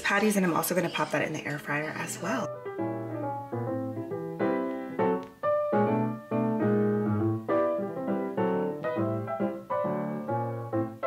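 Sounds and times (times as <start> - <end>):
piano music: 1.6 - 11.0.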